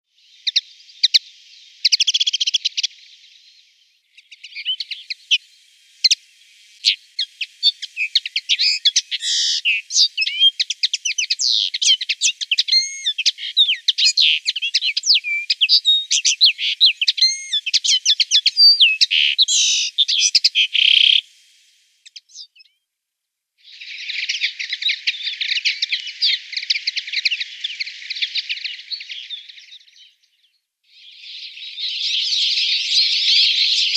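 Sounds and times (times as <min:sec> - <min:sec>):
bird twittering song: 0:00.2 - 0:22.8, 0:23.6 - 0:33.9.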